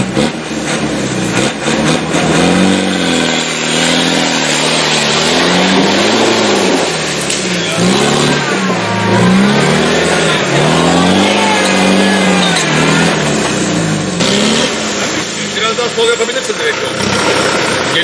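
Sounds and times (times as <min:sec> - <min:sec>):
engine revving hard: 0:00.0 - 0:18.0
wheels churning through mud: 0:00.0 - 0:18.0.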